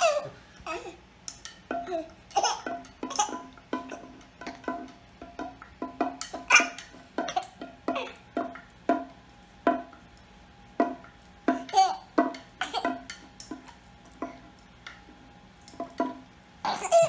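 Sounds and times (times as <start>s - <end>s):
hand drum tapped with plastic wand: 1.3s - 16.4s.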